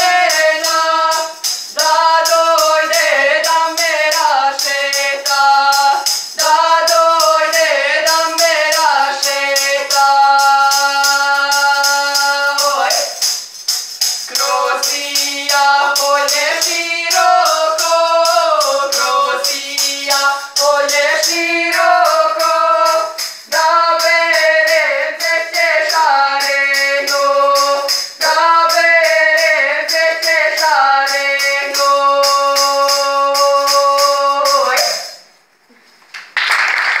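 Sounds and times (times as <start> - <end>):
woman and man singing folk song: 0.0 - 13.4, 14.0 - 35.2
tambourine beat: 0.0 - 35.6.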